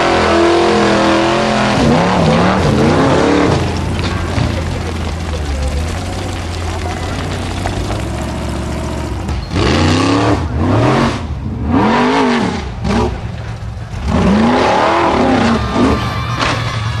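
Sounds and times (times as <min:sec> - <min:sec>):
buggy engine revving: 0:00.0 - 0:17.0.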